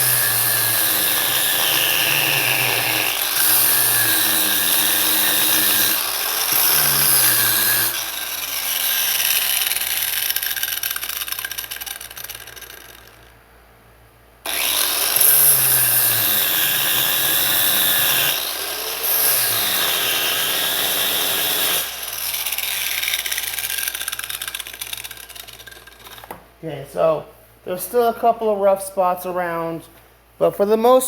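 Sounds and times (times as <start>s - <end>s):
angle grinder grinding steel: 0.0s - 13.3s, 14.5s - 26.5s.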